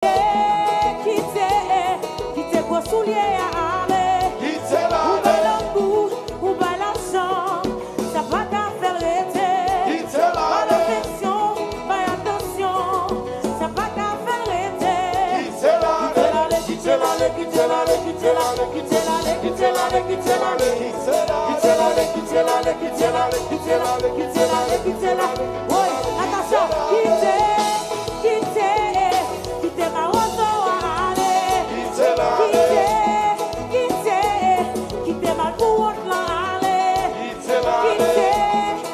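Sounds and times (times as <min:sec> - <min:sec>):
lead singer singing: 0:00.0 - 0:13.0, 0:13.7 - 0:38.9
live band dance music: 0:00.0 - 0:38.9.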